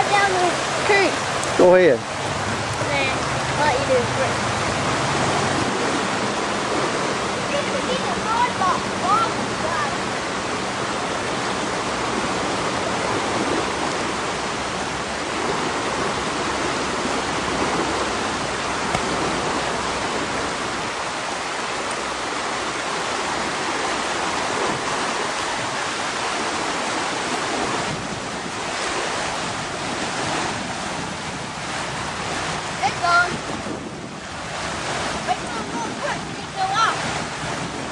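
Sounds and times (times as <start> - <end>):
rushing floodwater: 0.0 - 37.9.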